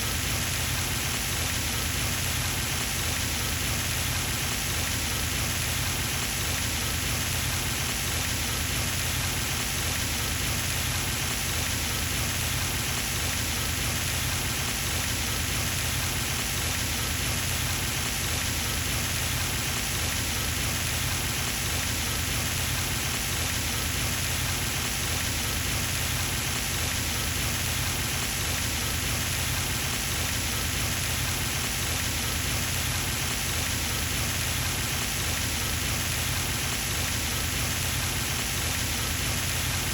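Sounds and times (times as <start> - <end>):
fountain splashing water: 0.0 - 39.9.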